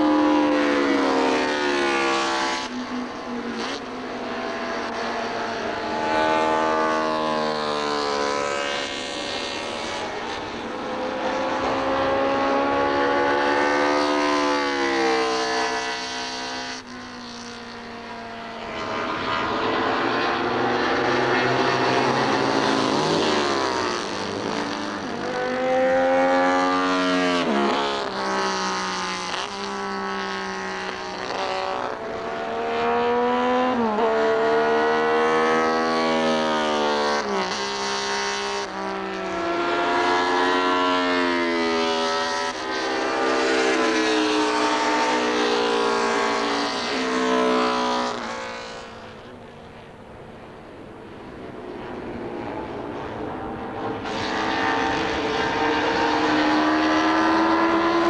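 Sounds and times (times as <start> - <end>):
motorcycle racing engine revving: 0.0 - 58.0.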